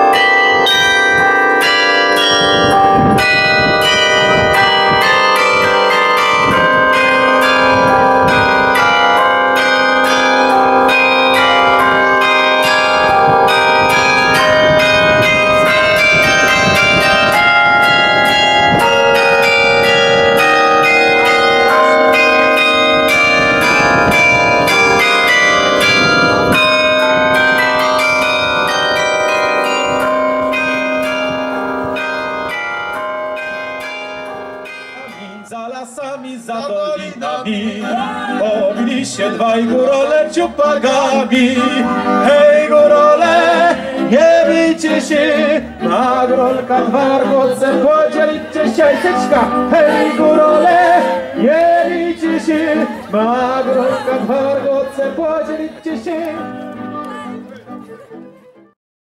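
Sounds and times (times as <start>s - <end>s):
carillon bells melody: 0.0s - 36.1s, 37.5s - 57.2s.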